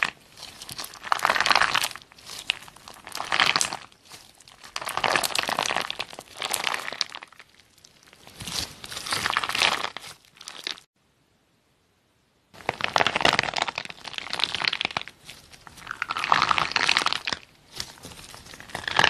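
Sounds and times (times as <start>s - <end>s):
slime squishing and crackling: 0.0s - 10.9s, 12.6s - 19.0s.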